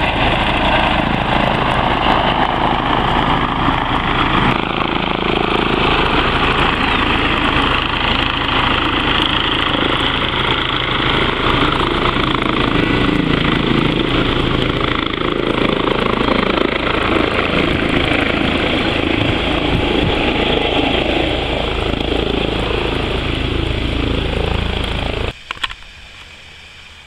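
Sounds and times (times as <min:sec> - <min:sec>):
helicopter hovering: 0:00.0 - 0:27.0.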